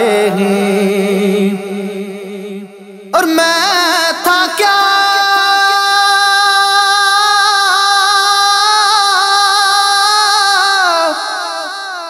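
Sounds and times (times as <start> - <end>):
man singing long high note: 0.0 - 12.0.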